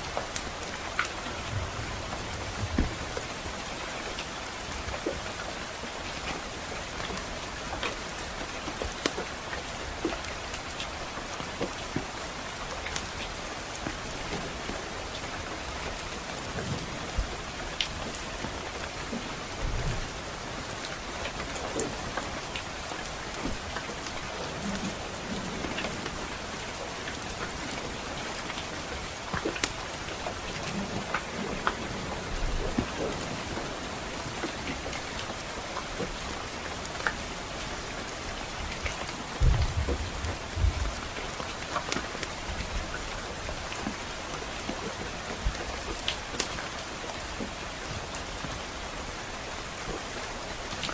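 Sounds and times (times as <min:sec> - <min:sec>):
rain pattering on a roof: 0:00.0 - 0:50.9.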